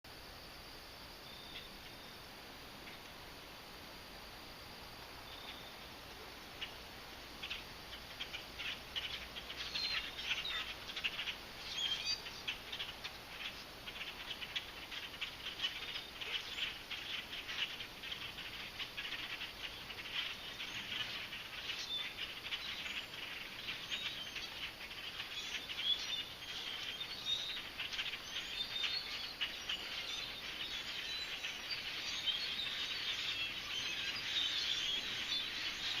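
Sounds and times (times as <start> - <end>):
flock of birds chirping: 0.1 - 36.0.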